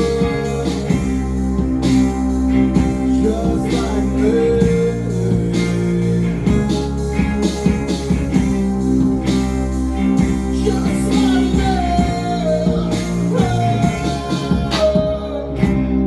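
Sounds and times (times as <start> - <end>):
person singing: 0.0 - 8.4, 10.2 - 16.0.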